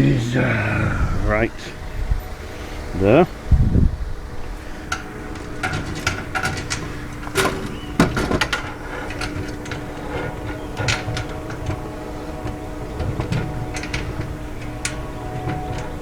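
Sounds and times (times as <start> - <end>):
steady low hum: 0.0 - 16.0
panels and bolts clicking: 1.3 - 16.0.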